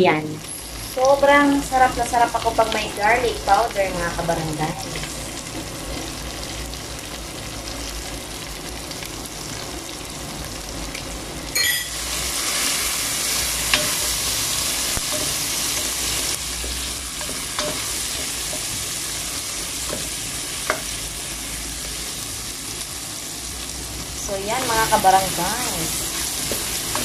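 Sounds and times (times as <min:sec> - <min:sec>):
meat sizzling in a pot: 0:00.1 - 0:27.0.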